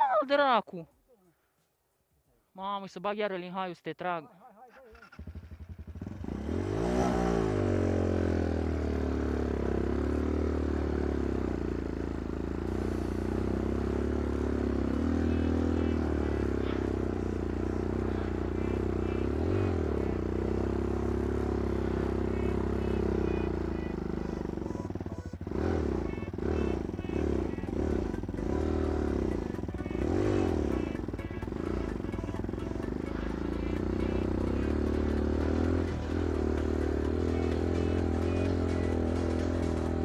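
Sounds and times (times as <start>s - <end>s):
quad bike engine revving: 4.6s - 40.0s.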